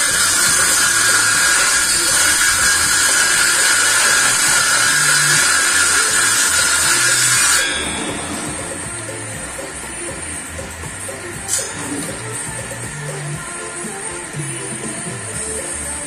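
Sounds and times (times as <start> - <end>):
table saw cutting wood: 0.0 - 15.9.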